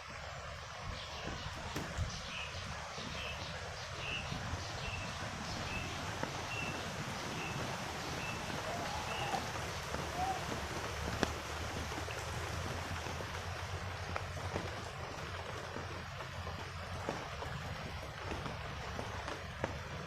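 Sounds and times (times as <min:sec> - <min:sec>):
steady rushing hiss: 0:00.0 - 0:20.0
low rumbling: 0:00.2 - 0:20.0.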